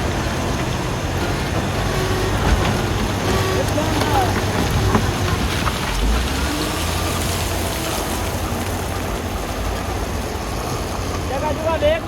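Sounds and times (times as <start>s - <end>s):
wheel loader diesel engine rumbling: 0.0s - 12.0s.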